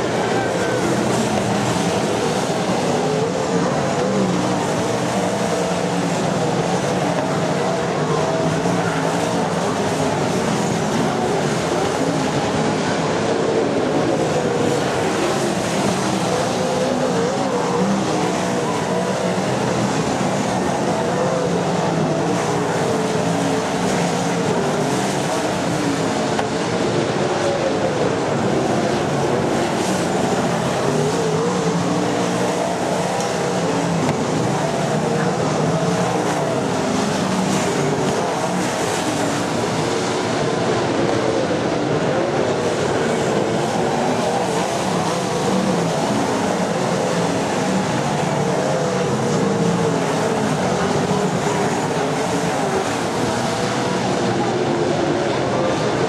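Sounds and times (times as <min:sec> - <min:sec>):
racing car engines roaring: 0:00.0 - 0:56.0.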